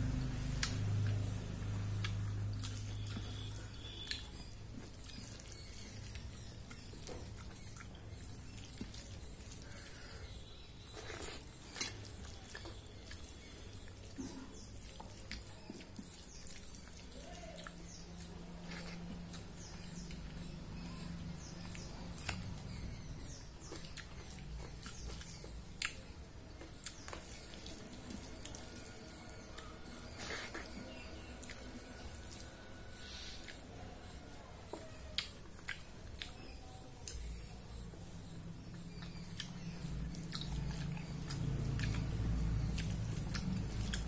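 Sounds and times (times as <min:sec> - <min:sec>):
quiet chewing: 0:00.0 - 0:44.0
wet squelches of fingers mixing rice: 0:00.0 - 0:44.0.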